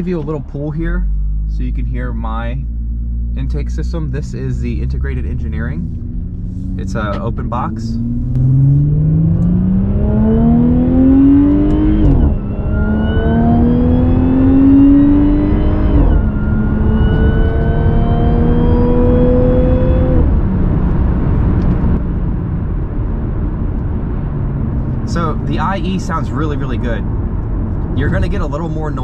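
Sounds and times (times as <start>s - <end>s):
car engine accelerating through gears: 0.0s - 29.0s
supercharger whine: 0.0s - 29.0s.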